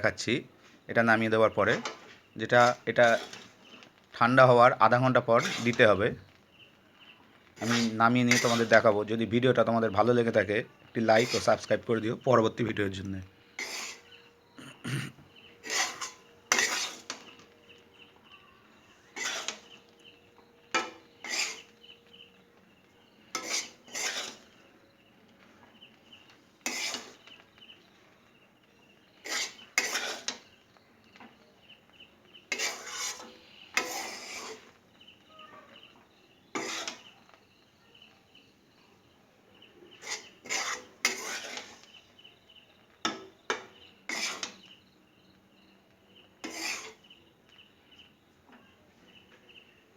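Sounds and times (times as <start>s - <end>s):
spatula scraping in a wok: 0.0s - 24.7s, 25.7s - 28.2s, 29.0s - 37.6s, 39.7s - 44.9s, 46.3s - 47.6s.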